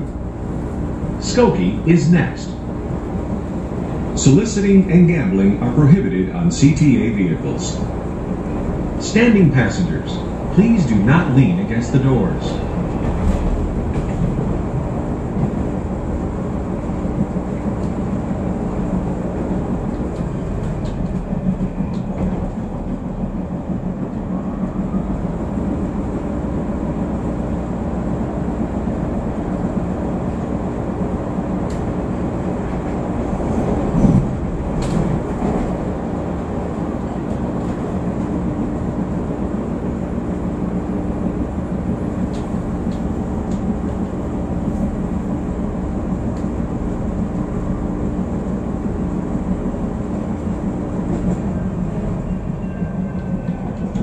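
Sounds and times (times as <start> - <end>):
train running noise from inside: 0.0 - 54.0.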